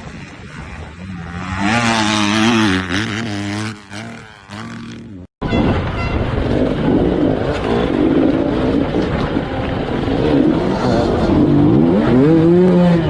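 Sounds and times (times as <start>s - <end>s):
motorcycle engine revving: 0.0s - 5.3s, 6.4s - 13.0s.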